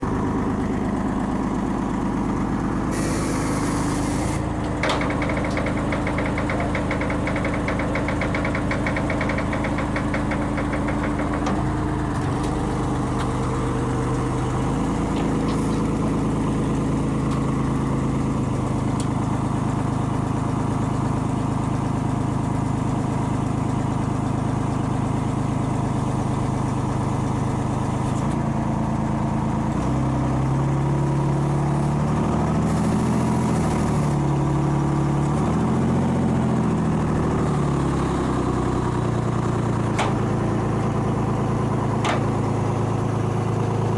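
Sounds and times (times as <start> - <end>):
crane engine running: 0.0 - 43.9.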